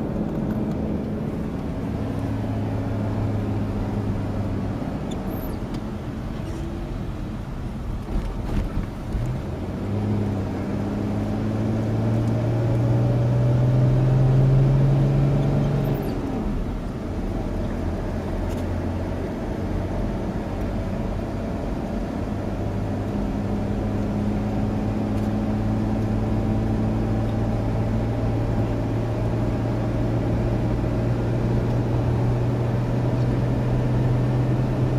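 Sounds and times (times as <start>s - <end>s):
off-road vehicle engine under load: 0.0s - 34.9s.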